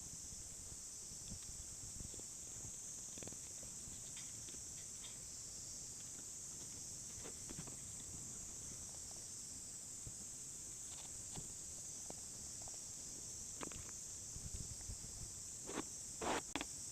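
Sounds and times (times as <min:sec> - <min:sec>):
insect chorus: 0:00.0 - 0:16.9.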